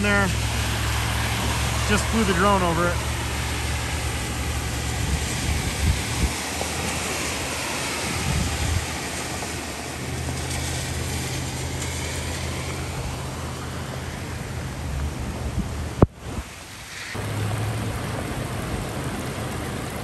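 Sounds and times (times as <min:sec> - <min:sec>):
flood water rushing: 0:00.0 - 0:20.0
vehicle engine idling: 0:00.0 - 0:20.0
wind: 0:00.0 - 0:20.0.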